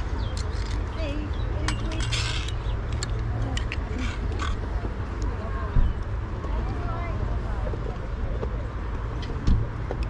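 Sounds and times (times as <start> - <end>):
faint distant voices: 0.0 - 10.0.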